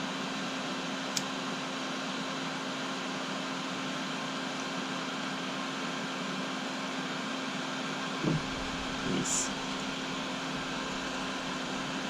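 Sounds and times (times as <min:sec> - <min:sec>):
machine hum and hiss: 0:00.0 - 0:12.0.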